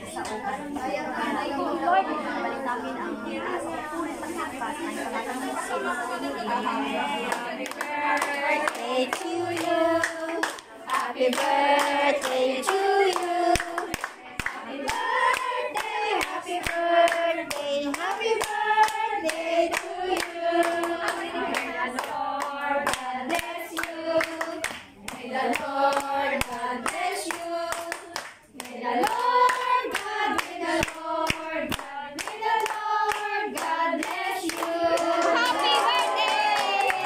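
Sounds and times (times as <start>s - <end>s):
women singing together: 0.0s - 37.0s
hands clapping: 7.3s - 37.0s.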